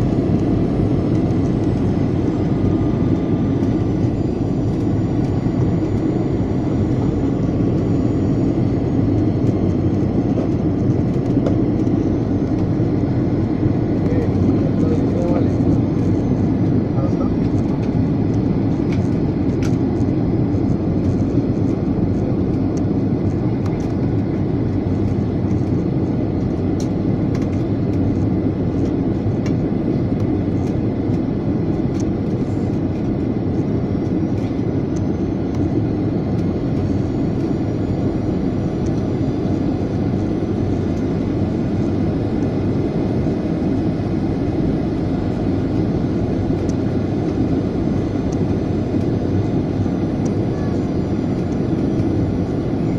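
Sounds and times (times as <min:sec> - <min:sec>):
jet engines droning in cabin: 0:00.0 - 0:52.9.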